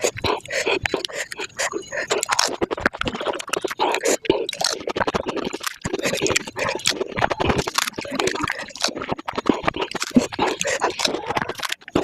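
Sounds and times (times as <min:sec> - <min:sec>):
sped-up eating mouth sounds: 0:00.0 - 0:12.0.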